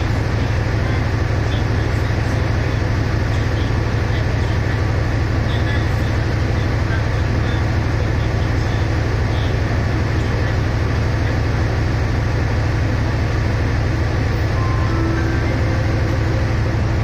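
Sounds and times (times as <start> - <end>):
train diesel engine idling: 0.0 - 17.0.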